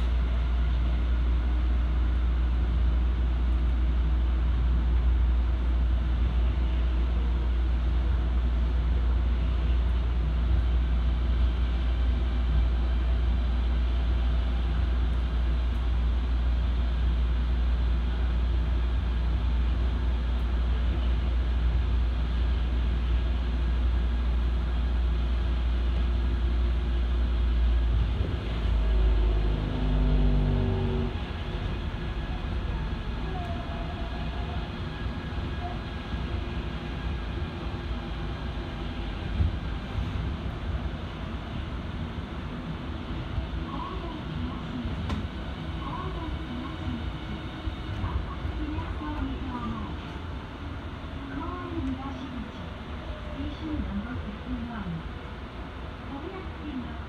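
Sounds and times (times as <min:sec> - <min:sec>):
monorail train rumble: 0:00.0 - 0:57.0.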